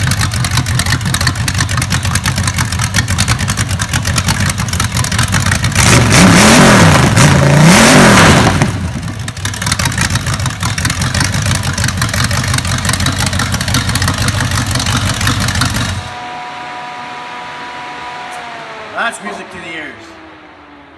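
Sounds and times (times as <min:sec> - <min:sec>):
car engine revving and idling: 0:00.0 - 0:20.9.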